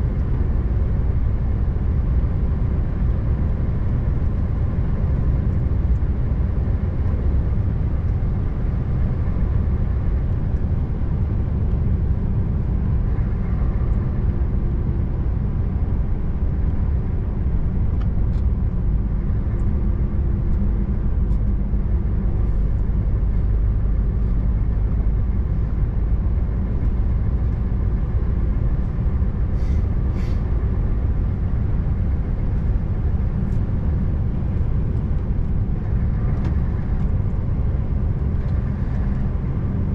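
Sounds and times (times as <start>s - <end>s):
road noise: 0.0s - 39.9s
truck diesel engine rumbling: 0.0s - 39.9s.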